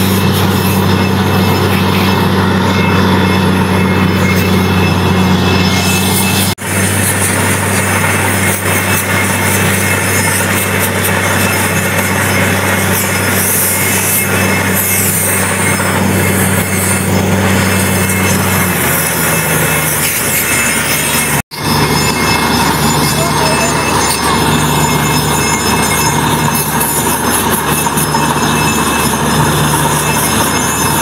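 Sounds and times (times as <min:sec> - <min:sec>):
drilling rig engine drone: 0:00.0 - 0:31.0
low hum: 0:00.0 - 0:31.0.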